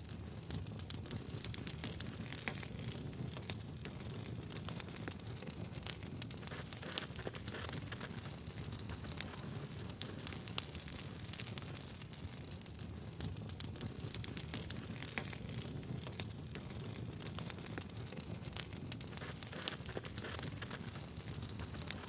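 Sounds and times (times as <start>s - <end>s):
fire crackling and popping: 0.0s - 22.0s
flame rumble: 0.0s - 22.0s.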